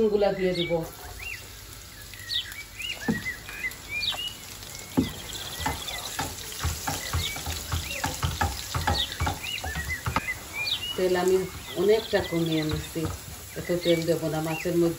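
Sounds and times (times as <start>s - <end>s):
birds chirping: 0.0s - 14.9s
garlic sizzling in oil: 0.0s - 14.9s.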